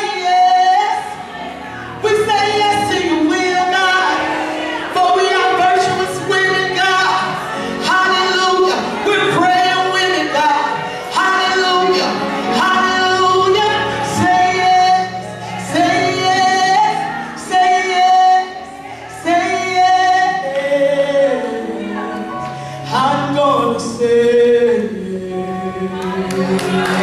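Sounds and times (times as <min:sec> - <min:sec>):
woman singing gospel: 0:00.0 - 0:27.0.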